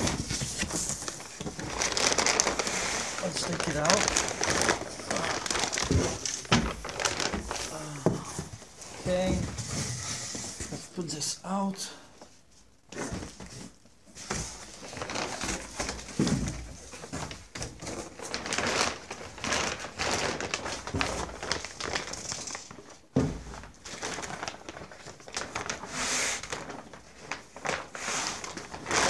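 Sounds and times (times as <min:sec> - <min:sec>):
plastic bag rustling: 0:00.0 - 0:11.3, 0:12.9 - 0:29.0.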